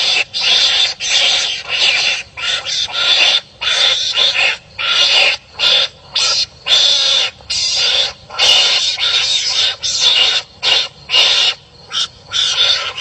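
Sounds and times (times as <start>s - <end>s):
animals fighting with harsh calls: 0.0s - 13.0s.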